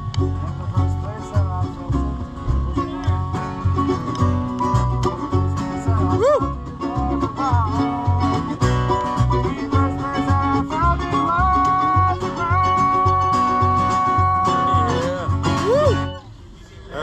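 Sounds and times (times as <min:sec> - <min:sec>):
banjo: 0:00.0 - 0:17.0
bluegrass band playing: 0:00.0 - 0:17.0.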